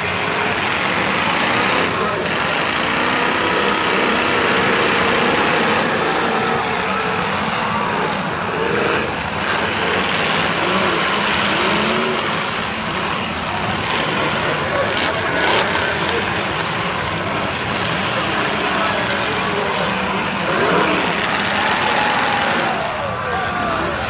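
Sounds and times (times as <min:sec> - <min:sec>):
car engines revving: 0:00.0 - 0:24.0
crowd noise: 0:00.0 - 0:24.0.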